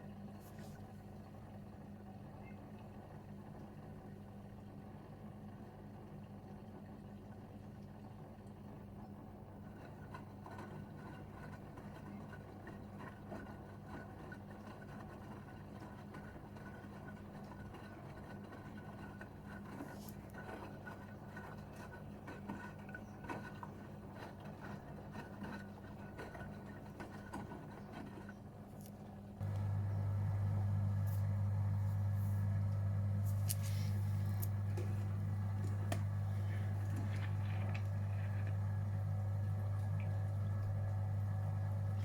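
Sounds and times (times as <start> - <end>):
washing machine motor hum: 0.0 - 42.0.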